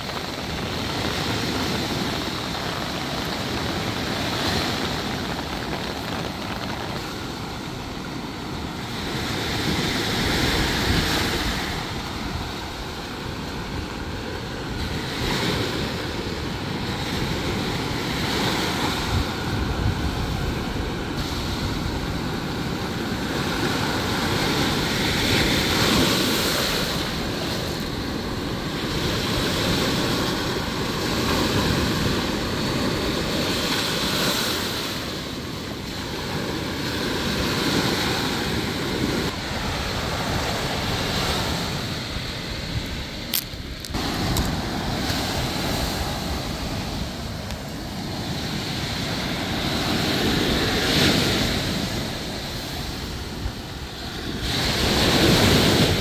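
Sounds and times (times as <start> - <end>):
surf breaking on sandy beach: 0.0 - 56.0.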